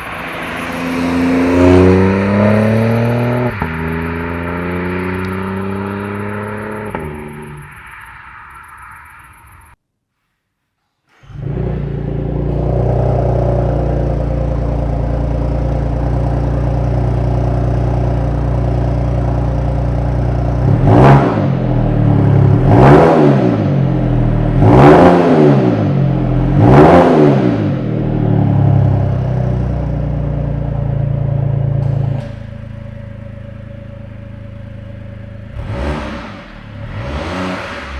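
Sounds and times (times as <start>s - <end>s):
car engine idling and revving: 0.0s - 9.8s, 11.2s - 37.9s.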